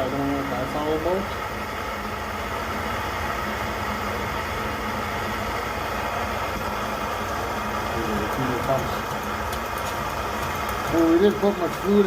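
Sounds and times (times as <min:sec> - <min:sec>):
stove burner roaring: 0:00.0 - 0:12.0.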